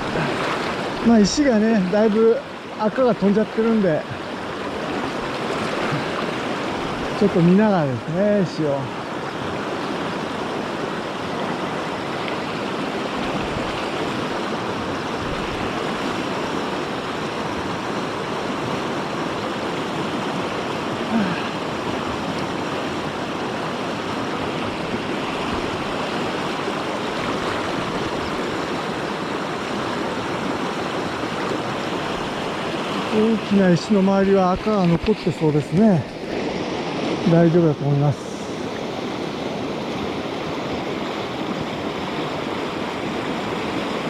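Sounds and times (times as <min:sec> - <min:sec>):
river rushing over rocks: 0:00.0 - 0:44.0.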